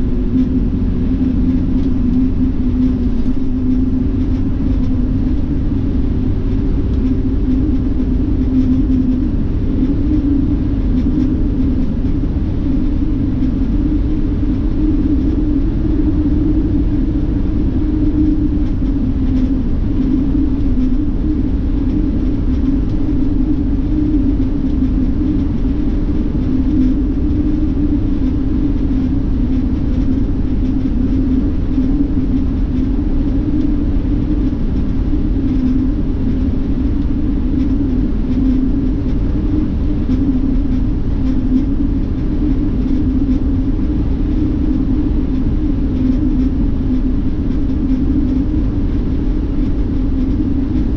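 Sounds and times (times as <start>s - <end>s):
road noise: 0.0s - 47.6s
bus engine drone: 0.0s - 50.9s
constant low hum: 0.0s - 50.9s.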